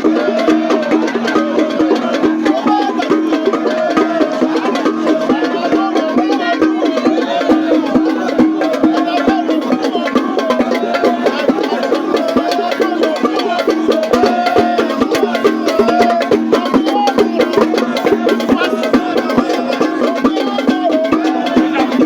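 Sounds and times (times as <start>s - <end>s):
fast wood block and drum percussion: 0.0s - 22.0s.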